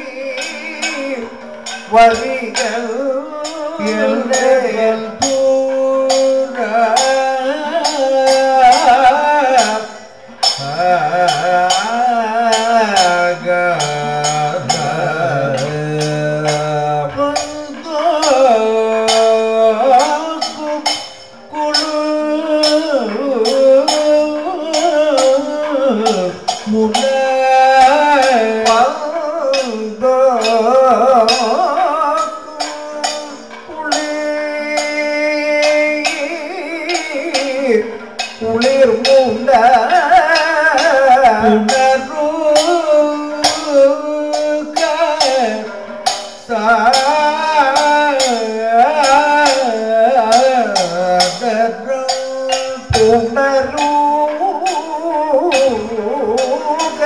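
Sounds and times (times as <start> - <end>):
man singing: 0.0 - 57.0
sharp percussion strikes: 0.0 - 57.0.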